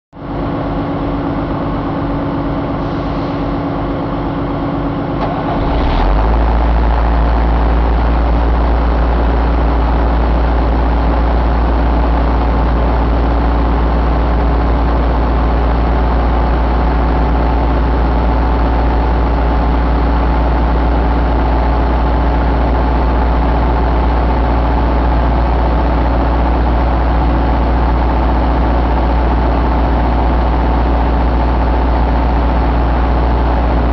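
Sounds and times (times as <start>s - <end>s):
diesel engine idling: 0.2s - 33.9s.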